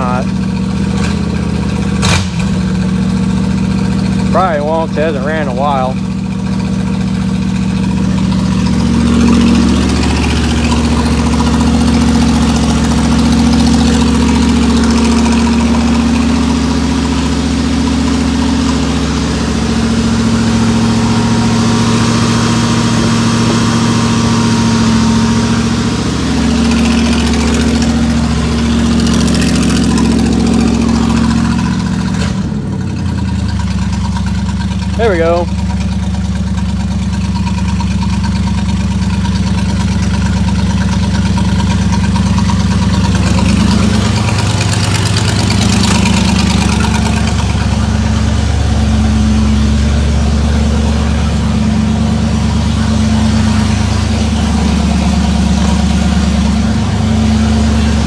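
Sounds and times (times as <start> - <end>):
car engine fast idle: 0.0 - 58.0.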